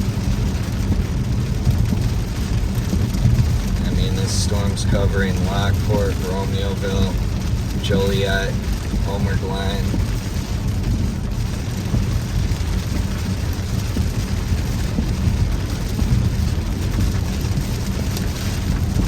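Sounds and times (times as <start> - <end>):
rain hitting a truck: 0.0 - 19.0
truck driving on wet road: 0.0 - 19.0.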